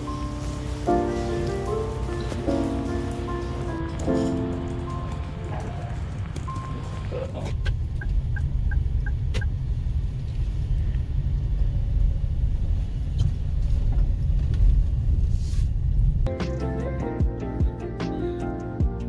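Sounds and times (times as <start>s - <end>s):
vehicle rumbling: 0.0s - 17.0s.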